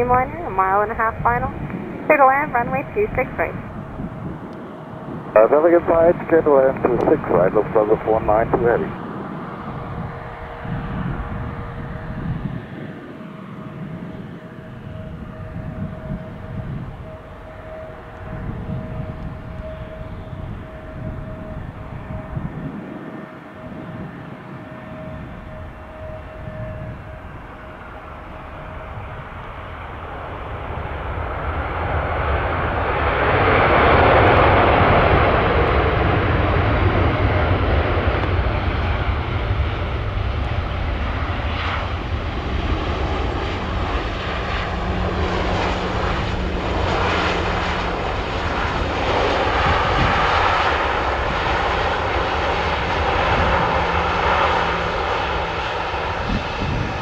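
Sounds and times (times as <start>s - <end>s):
jet engines landing: 0.0s - 57.0s.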